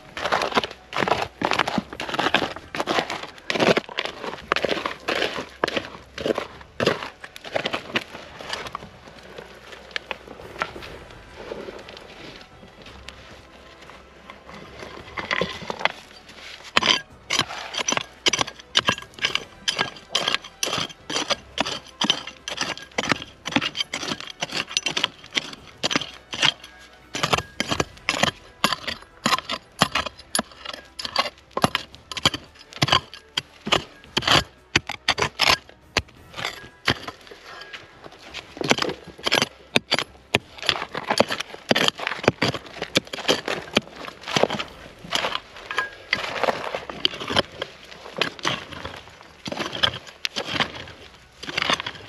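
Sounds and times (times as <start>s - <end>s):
hand pick striking stony earth: 0.0s - 13.4s, 14.2s - 52.0s
soil and pebbles scraping: 0.0s - 52.0s.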